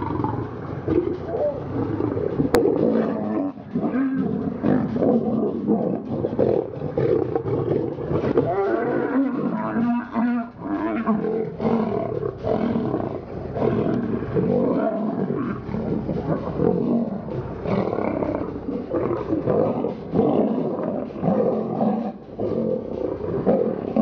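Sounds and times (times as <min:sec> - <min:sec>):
lions roaring: 0:00.0 - 0:24.0.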